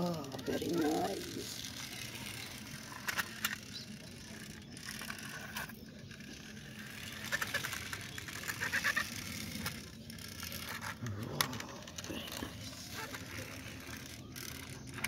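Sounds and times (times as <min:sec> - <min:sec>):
toy wheels rolling on concrete: 0:00.0 - 0:15.0.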